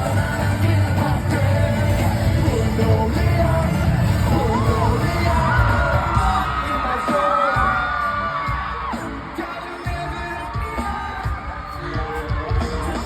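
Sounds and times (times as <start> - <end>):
pop music with singing: 0.0 - 13.0.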